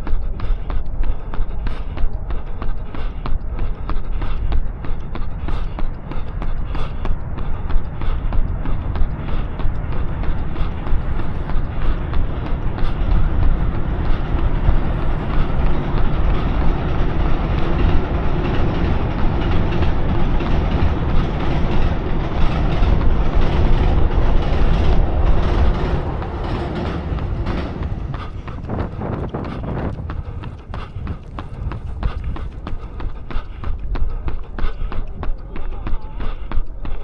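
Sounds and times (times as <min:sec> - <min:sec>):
loud steady rumble: 0:00.0 - 0:36.2
runner's footsteps: 0:00.0 - 0:37.0.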